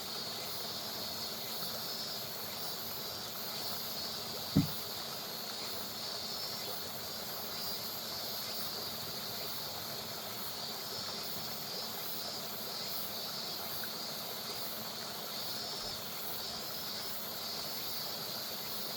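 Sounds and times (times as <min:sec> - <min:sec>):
river water flowing: 0:00.1 - 0:18.9.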